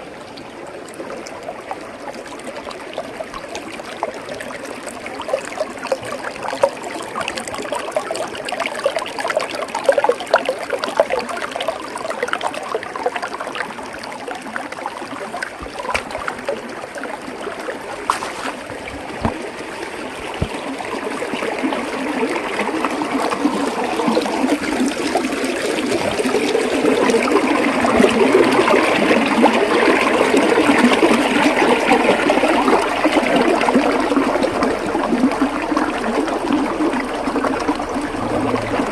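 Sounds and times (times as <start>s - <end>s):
water splashing over rocks: 1.0s - 38.9s.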